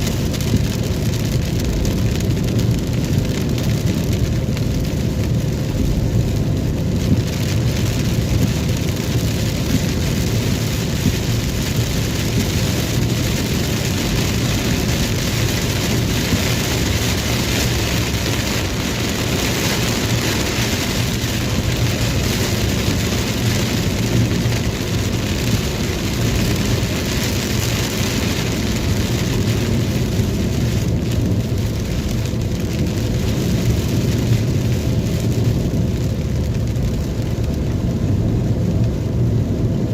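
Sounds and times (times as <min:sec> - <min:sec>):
low vehicle rumble: 0:00.0 - 0:39.9
steady rain: 0:00.0 - 0:39.9.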